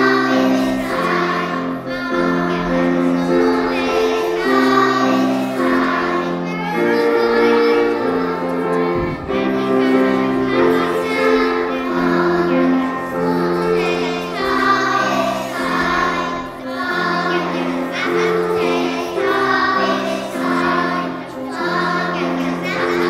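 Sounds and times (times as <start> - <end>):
children singing: 0.0 - 23.0
instrumental accompaniment: 0.0 - 23.0.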